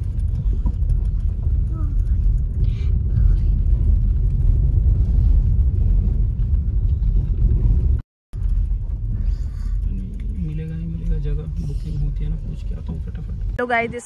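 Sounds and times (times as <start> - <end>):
car driving on dirt road: 0.0 - 14.0.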